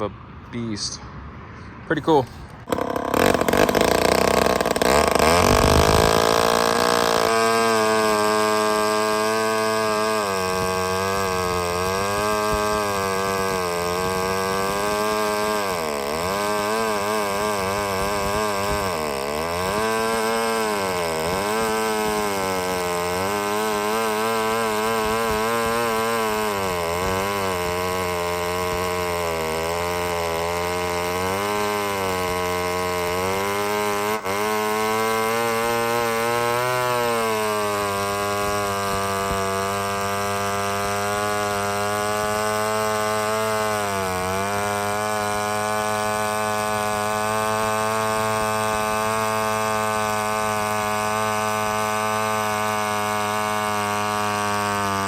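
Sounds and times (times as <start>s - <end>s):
chainsaw running at high speed: 2.1s - 55.0s.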